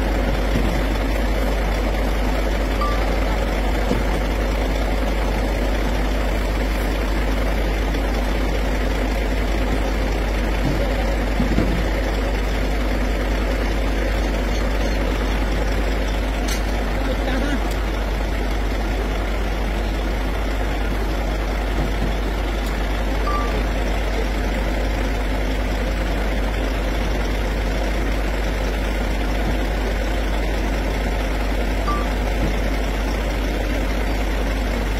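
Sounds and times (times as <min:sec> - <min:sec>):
crane engine idling: 0:00.0 - 0:34.9.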